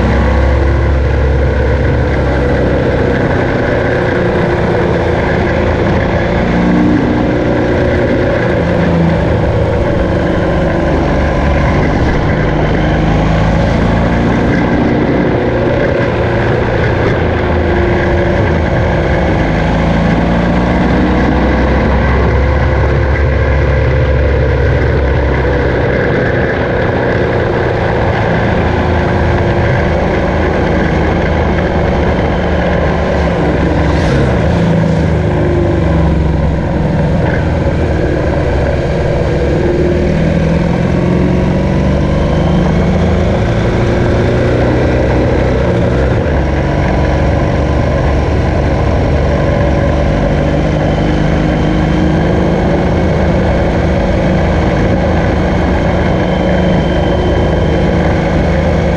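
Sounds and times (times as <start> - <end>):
motorcycle engine running: 0.0 - 58.9
wind and road rush: 0.0 - 58.9.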